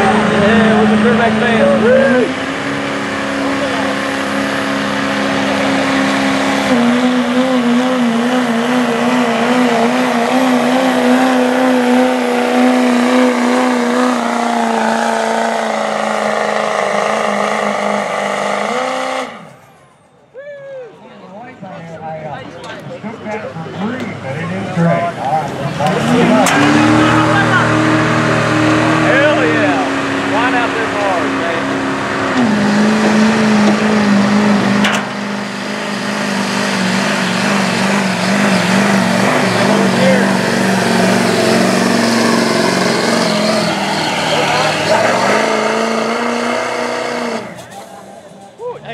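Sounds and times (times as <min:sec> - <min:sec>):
truck engine droning under load: 0:00.0 - 0:20.4, 0:21.4 - 0:48.9.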